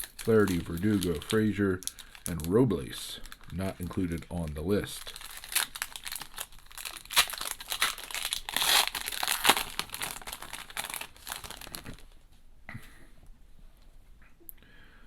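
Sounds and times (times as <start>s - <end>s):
card pack wrapper crinkling and tearing: 0.0s - 12.2s.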